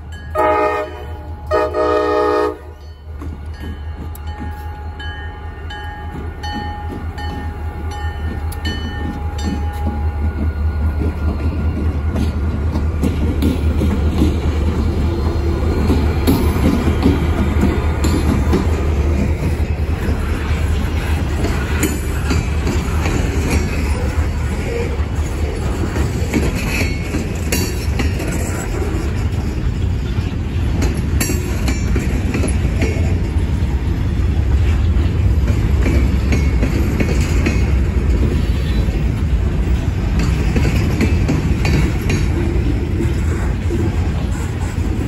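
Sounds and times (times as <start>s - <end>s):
train wheels rumbling on track: 0.0s - 45.0s
wheels clanking over rail joints: 2.7s - 45.0s.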